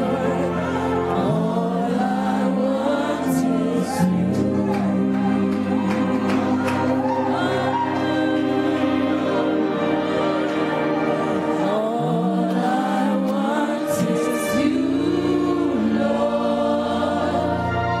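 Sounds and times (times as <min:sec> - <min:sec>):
choir singing gospel: 0:00.0 - 0:18.0
sustained held chords: 0:00.0 - 0:18.0.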